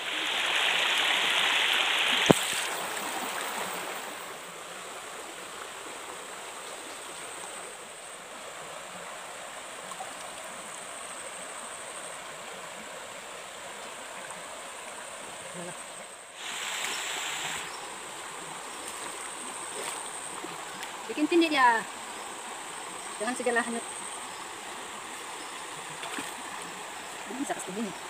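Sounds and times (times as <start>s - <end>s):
stream running over stones: 0.0s - 28.0s.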